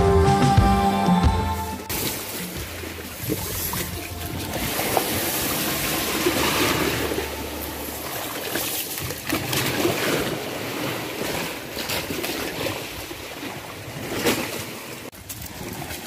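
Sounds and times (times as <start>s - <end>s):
sea surf washing on shore: 1.8s - 16.0s.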